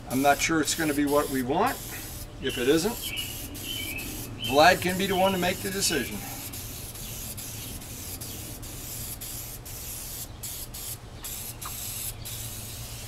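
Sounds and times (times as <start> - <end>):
aerosol spray can hissing: 0.7 - 13.0.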